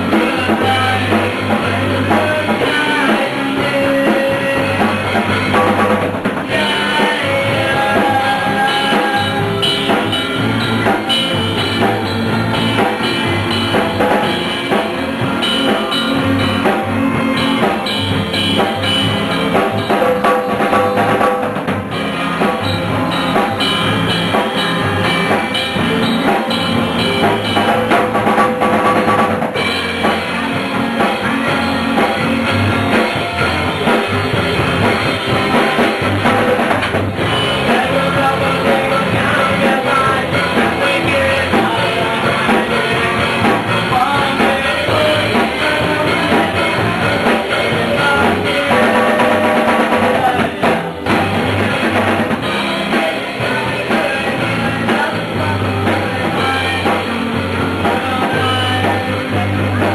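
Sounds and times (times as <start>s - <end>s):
bass guitar: 0.0s - 59.9s
drum kit: 0.0s - 59.9s
electric guitars: 0.0s - 59.9s
person singing: 0.0s - 59.9s.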